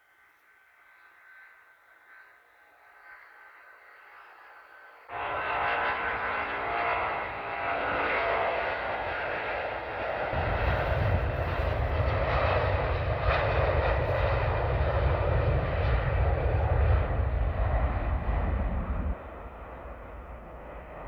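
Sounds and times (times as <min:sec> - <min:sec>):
jet engines at takeoff thrust: 0:00.8 - 0:21.0.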